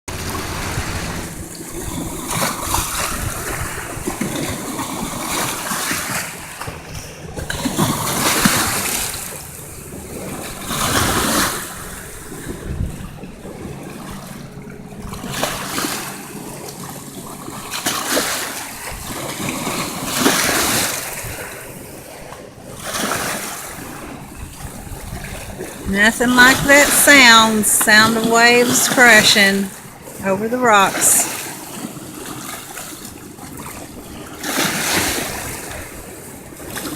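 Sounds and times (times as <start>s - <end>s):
waves splashing over rocks: 0.1s - 36.9s.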